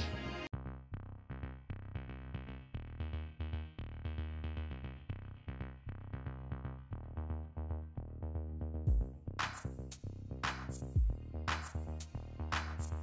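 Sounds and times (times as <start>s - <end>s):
music with steady beat and bass: 0.0s - 13.0s.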